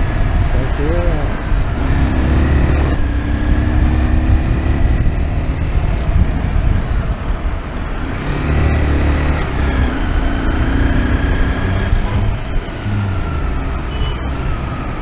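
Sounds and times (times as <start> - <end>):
wind on microphone: 0.0 - 13.8.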